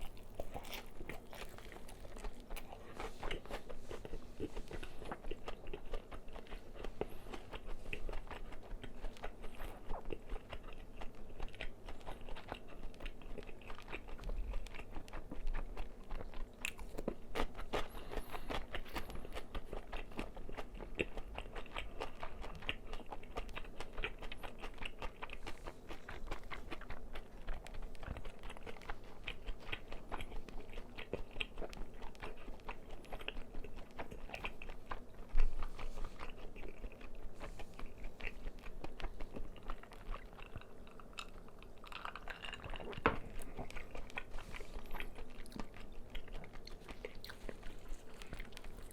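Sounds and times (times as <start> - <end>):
crunching fried chicken: 0.0 - 48.9.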